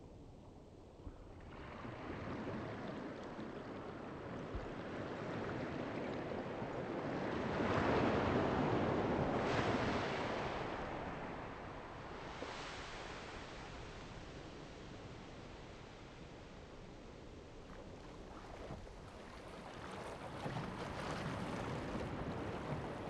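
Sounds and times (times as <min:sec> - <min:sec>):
rushing wind and water: 0:00.0 - 0:23.0.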